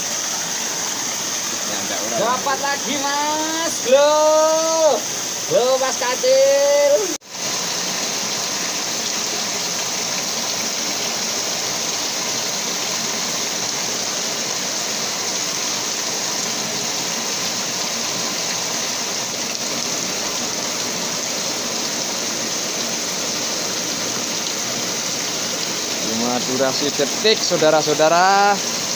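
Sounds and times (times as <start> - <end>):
river water flowing: 0.0 - 28.9.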